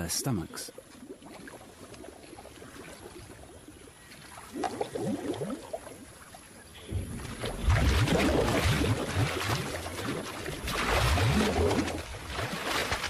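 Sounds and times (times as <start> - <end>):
muddy water sloshing and gurgling: 0.0 - 13.0.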